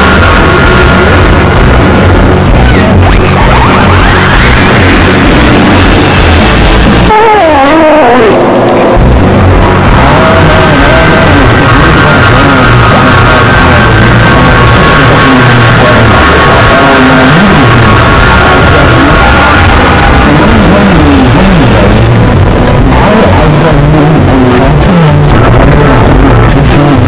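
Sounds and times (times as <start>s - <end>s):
loud dense music: 0.0s - 27.0s.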